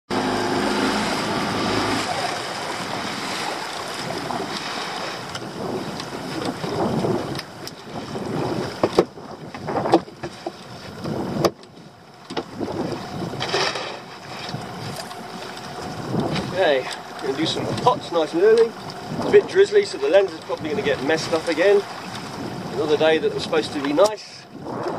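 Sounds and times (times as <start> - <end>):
motor hum: 0.1 - 23.0
sea washing against boat: 0.1 - 24.9
wind buffeting microphone: 0.1 - 24.9.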